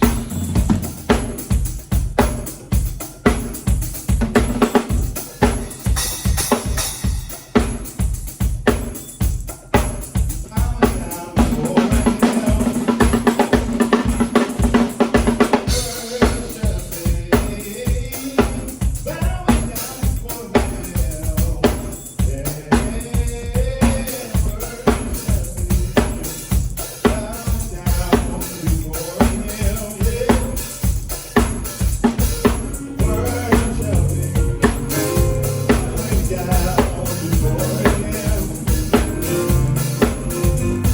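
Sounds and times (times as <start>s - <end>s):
drum kit music: 0.0s - 40.9s.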